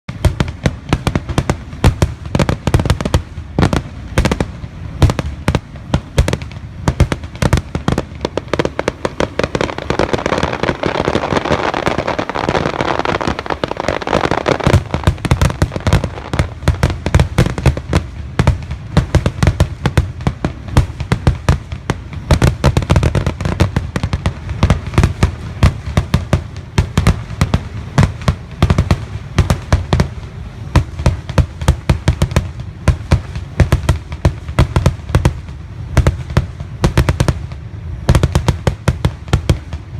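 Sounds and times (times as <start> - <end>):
crackling hiss of fireworks: 0.0 - 39.9
fireworks bangs and pops: 0.1 - 39.9.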